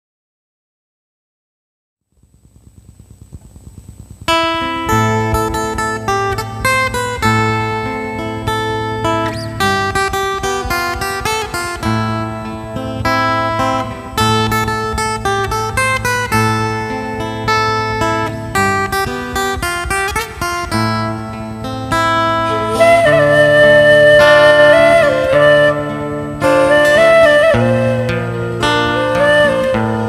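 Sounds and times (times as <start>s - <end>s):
acoustic guitar playing: 3.8s - 30.0s.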